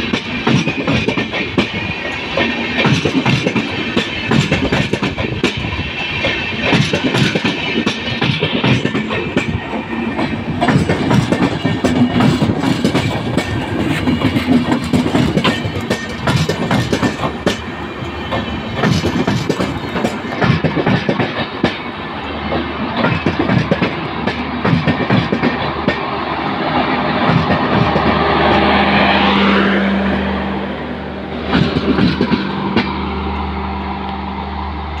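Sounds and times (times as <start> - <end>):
train wheels clacking over rail joints: 0.0 - 30.3, 31.3 - 33.5
train low hum: 0.0 - 35.0.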